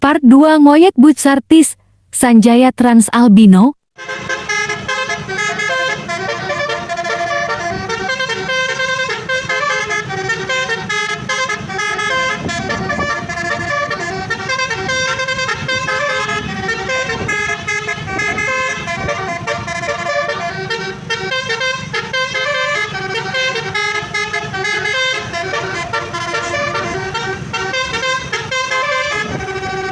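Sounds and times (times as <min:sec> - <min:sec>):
musical bus horn melody: 0:04.0 - 0:29.9.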